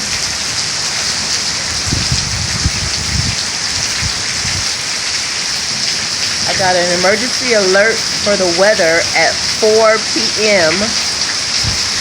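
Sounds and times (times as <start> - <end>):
heavy rain pouring: 0.0 - 12.0
low thunder rumble: 1.1 - 12.0.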